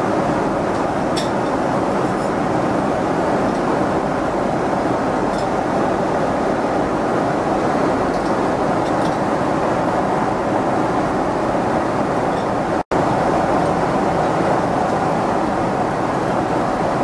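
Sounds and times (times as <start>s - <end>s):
airliner cabin engine roar: 0.0s - 17.0s.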